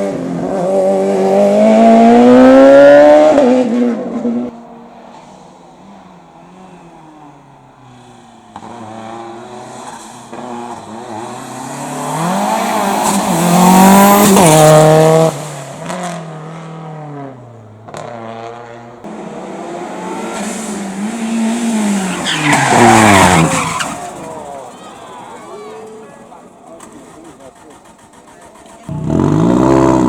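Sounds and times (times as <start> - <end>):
race car engine revving: 0.0 - 4.6, 5.9 - 30.0.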